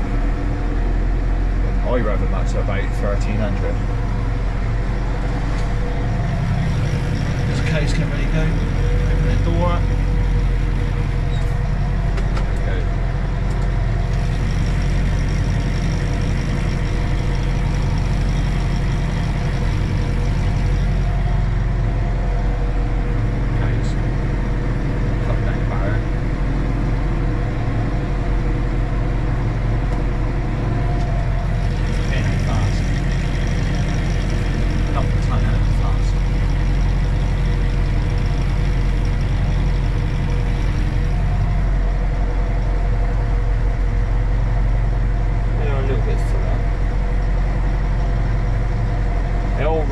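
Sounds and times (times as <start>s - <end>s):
steady whine: 0.0s - 49.9s
tractor engine running: 0.0s - 49.9s.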